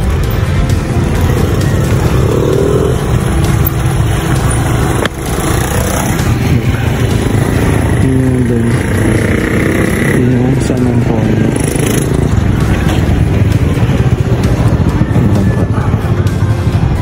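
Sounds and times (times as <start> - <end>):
motorcycle engines passing: 0.0 - 17.0
steady low rumble: 0.0 - 17.0.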